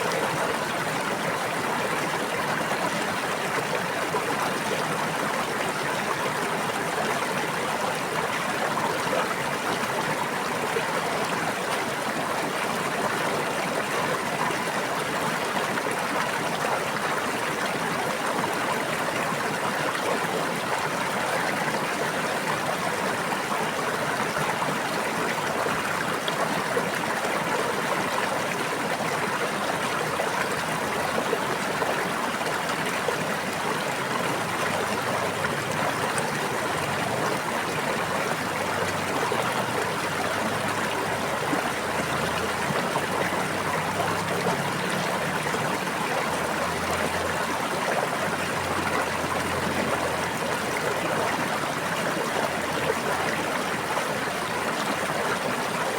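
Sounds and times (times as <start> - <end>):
stream babbling: 0.0 - 55.9.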